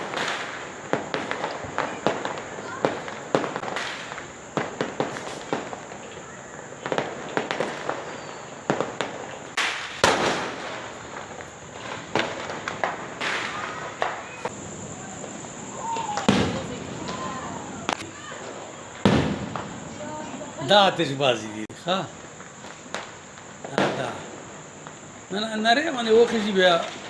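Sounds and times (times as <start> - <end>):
firework crackling burst: 0.0 - 27.0
fireworks bangs and pops: 0.0 - 27.0.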